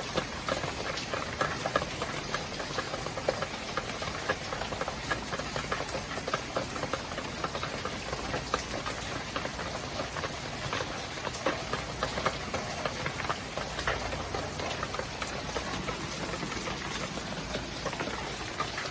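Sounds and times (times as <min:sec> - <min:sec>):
rain pattering: 0:00.0 - 0:18.9.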